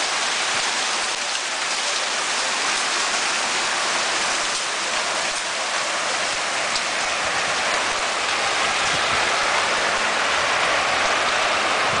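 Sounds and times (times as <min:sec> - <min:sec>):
hail falling heavily: 0:00.0 - 0:12.0.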